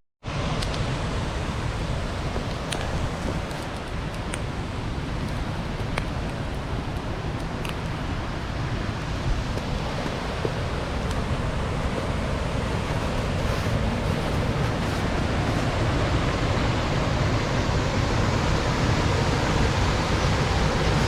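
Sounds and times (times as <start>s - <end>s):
water rushing over weir: 0.3s - 21.0s.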